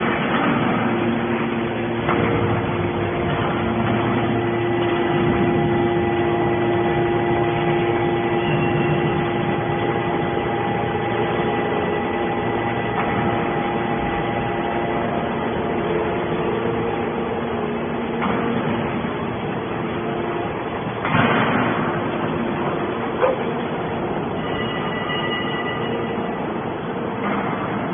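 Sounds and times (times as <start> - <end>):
baler motor and pump humming: 0.0 - 27.9.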